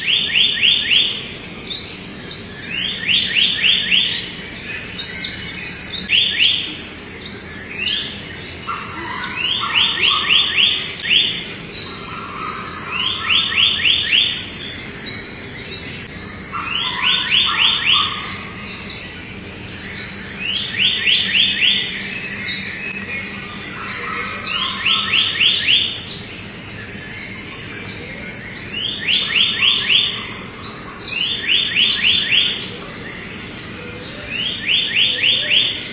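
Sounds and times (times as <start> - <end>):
other birds chirping: 0.0 - 35.9.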